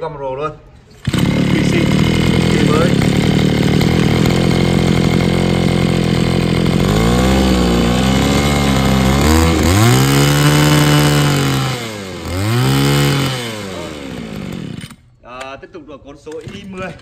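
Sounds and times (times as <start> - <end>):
brush cutter engine revving: 1.0 - 15.1.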